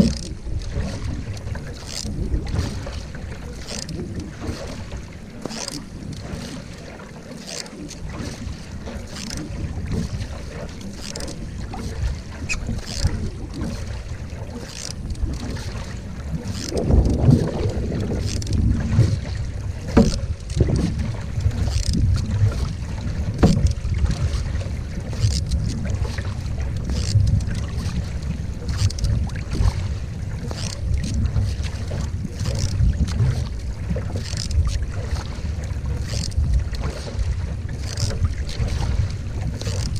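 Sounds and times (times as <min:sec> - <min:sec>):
wind on microphone: 0:00.0 - 0:05.2, 0:08.1 - 0:39.9
paddle splashing through water: 0:00.0 - 0:39.9.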